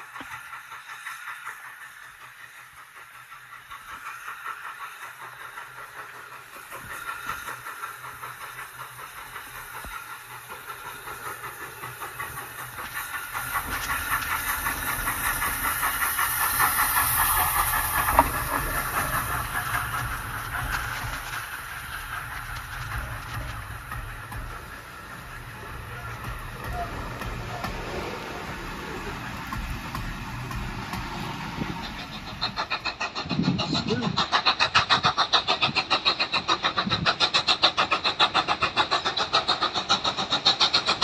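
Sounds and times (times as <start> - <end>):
carriages clattering on rails: 0.0 - 41.0
steam locomotive exhaust beats: 0.0 - 41.0.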